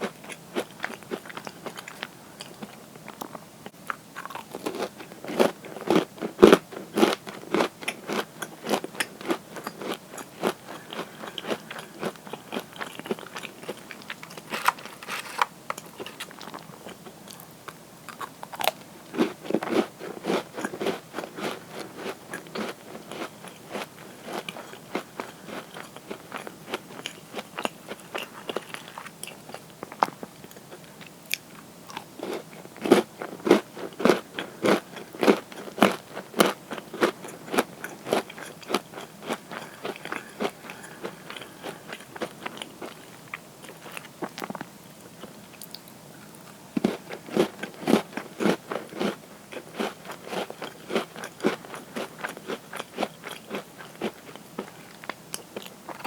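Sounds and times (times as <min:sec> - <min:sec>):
crunching cookies: 0:00.0 - 0:56.0.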